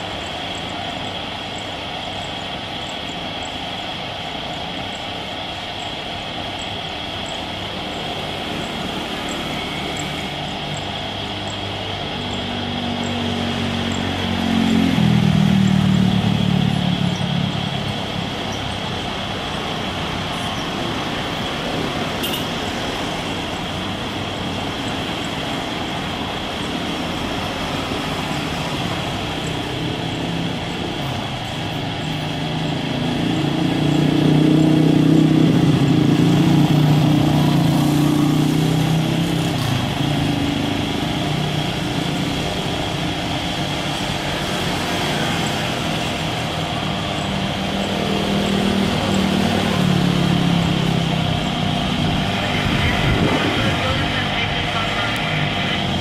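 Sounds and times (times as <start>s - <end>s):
jet engines at takeoff: 0.0s - 56.0s.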